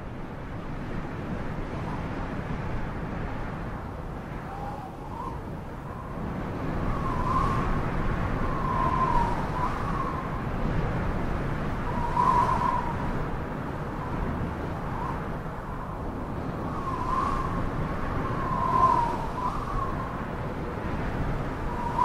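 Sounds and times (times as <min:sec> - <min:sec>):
low wind rush: 0:00.0 - 0:22.0
wind whistling: 0:00.0 - 0:22.0.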